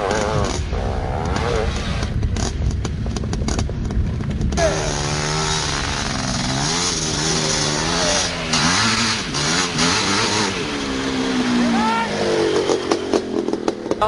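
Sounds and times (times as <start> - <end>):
low rapid rattle: 0.0 - 11.2, 12.3 - 14.0
quad engine revving: 0.0 - 14.0.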